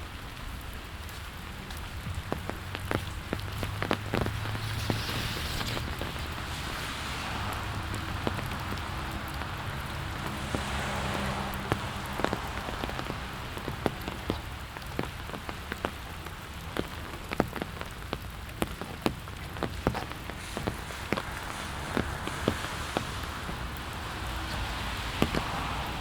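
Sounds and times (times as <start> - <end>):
rain hissing on the ground: 0.0 - 26.0.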